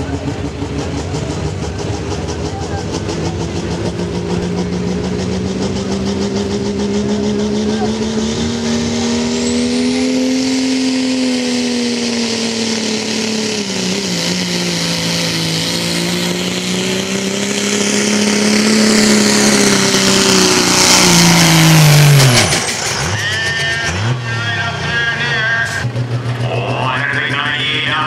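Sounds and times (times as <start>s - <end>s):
diesel engine at full throttle: 0.0s - 28.0s.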